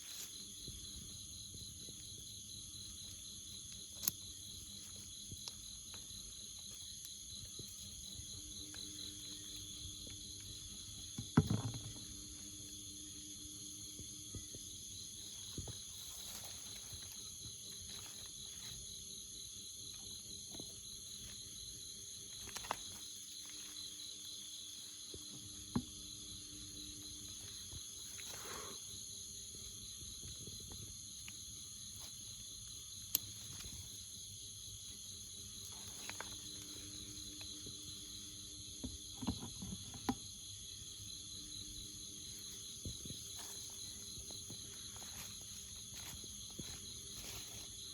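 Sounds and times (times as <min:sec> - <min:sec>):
jungle insects chorus: 0:00.0 - 0:47.9.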